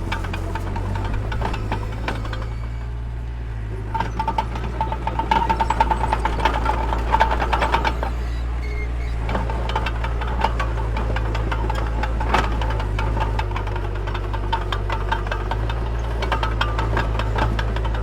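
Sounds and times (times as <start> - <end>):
diesel engine running: 0.0 - 18.0
metallic clanking rattle with squeal: 0.0 - 18.0.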